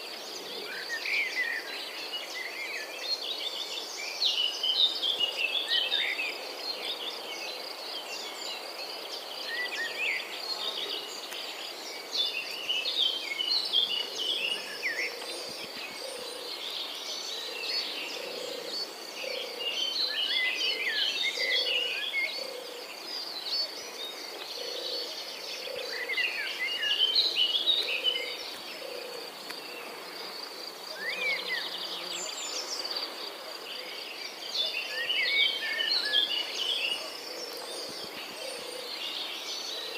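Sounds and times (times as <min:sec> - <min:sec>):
birds chirping and singing: 0:00.2 - 0:39.9.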